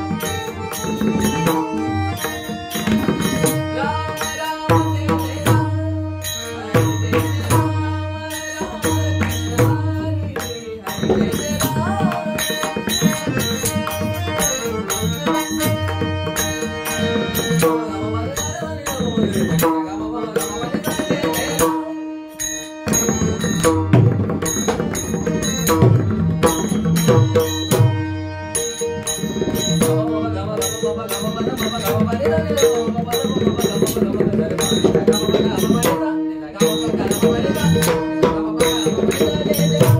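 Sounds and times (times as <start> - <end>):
pakhwaj drum strokes: 0.0 - 39.9.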